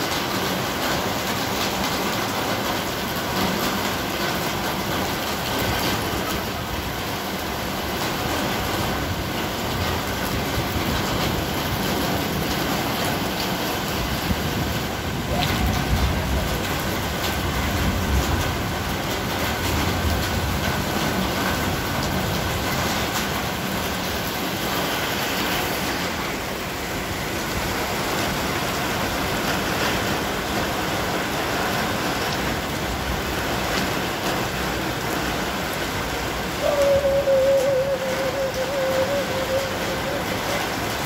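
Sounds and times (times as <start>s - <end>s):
heavy rain on a street: 0.0s - 41.0s.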